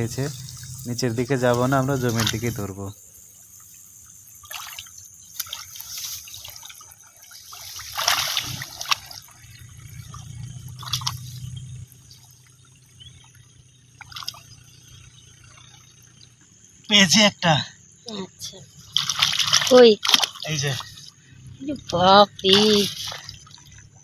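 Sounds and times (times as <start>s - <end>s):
muddy water splashing: 0.0s - 2.9s, 3.5s - 14.7s, 18.8s - 24.0s.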